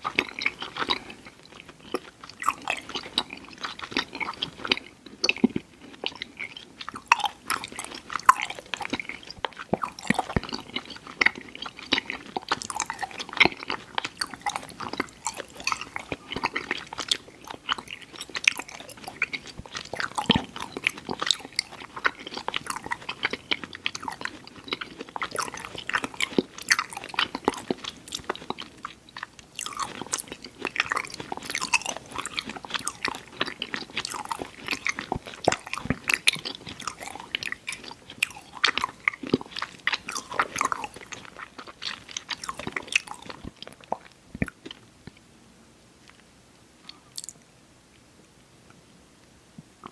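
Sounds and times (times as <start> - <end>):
chewing candy mouth clicks: 0.1 - 44.8, 46.9 - 47.4.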